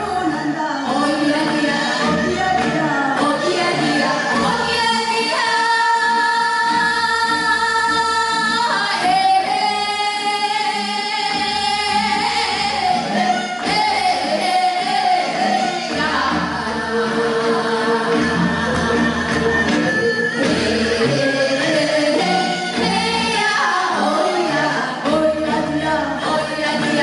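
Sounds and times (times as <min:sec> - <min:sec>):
women singing a folk song: 0:00.0 - 0:27.0.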